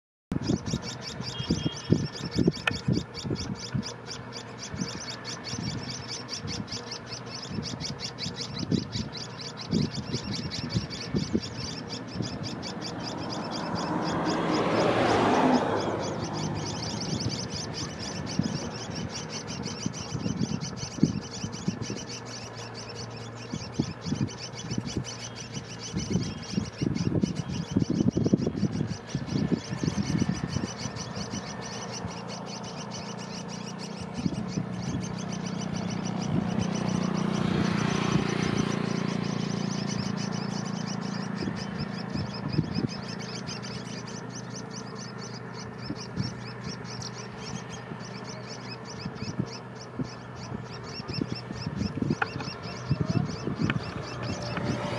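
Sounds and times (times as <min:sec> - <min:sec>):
young birds begging calls: 0:00.3 - 0:54.9.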